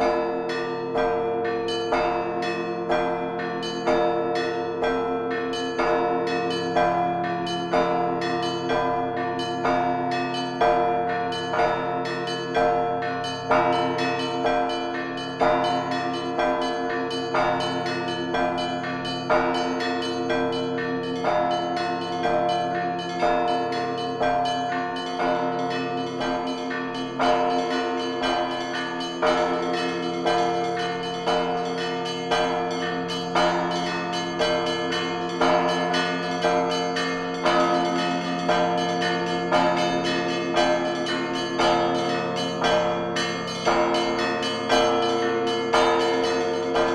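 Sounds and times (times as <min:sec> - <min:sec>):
church bells pealing: 0:00.0 - 0:46.9.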